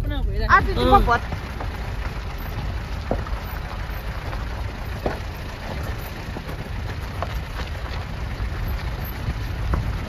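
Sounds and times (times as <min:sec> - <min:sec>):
vehicle driving on gravel: 0:00.0 - 0:10.0
light knocks and rattles: 0:01.1 - 0:10.0.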